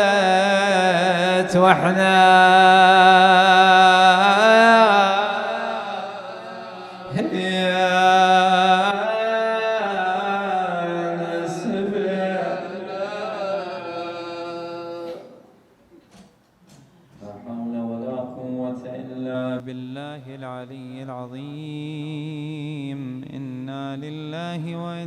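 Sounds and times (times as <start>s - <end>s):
man chanting a lament: 0.0s - 15.4s, 17.2s - 25.0s.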